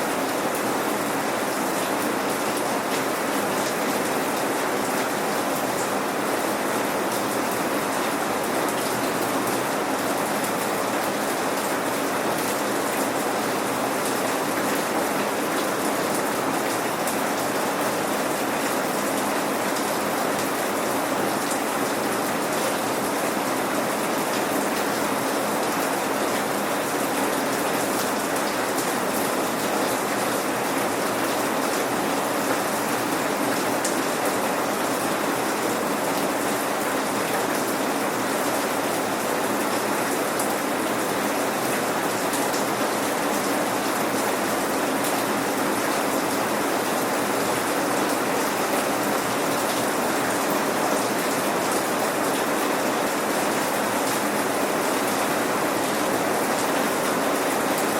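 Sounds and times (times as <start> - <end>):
steady rain pattering: 0.0 - 57.9.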